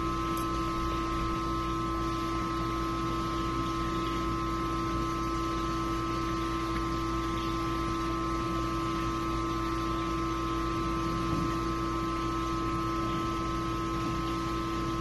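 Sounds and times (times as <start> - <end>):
machine hum with pitched tones: 0.0 - 15.0.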